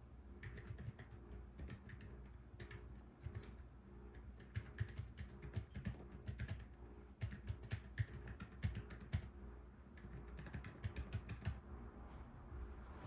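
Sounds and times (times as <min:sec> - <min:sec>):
rapid typing on silent keyboard: 0:00.4 - 0:09.3, 0:09.9 - 0:11.6.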